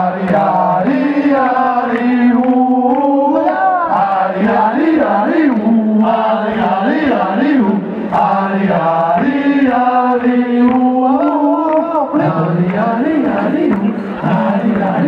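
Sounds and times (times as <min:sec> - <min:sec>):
crowd chanting in unison: 0:00.0 - 0:15.0.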